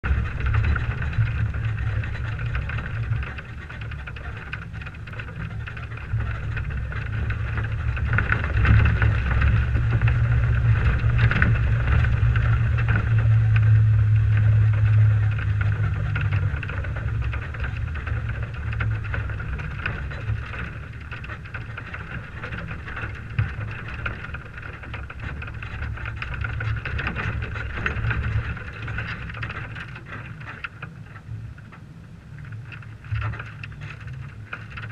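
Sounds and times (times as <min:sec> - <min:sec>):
truck engine low drone: 0:00.0 - 0:30.2.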